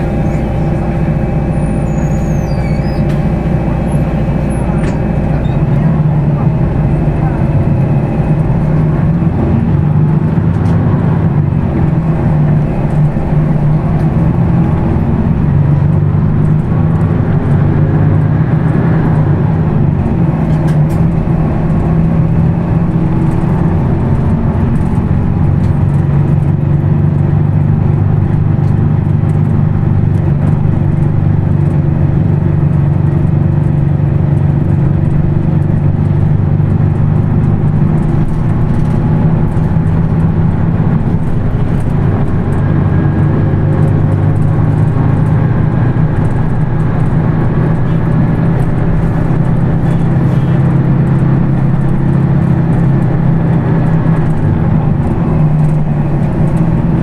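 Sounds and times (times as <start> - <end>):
bus engine droning: 0.0 - 57.0.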